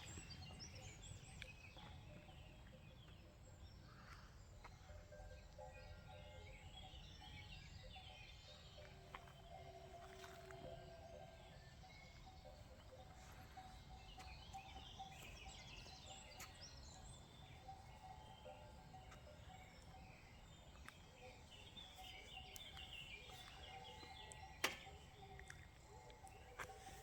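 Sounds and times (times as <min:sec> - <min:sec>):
faint birds chirping: 0:00.0 - 0:27.0.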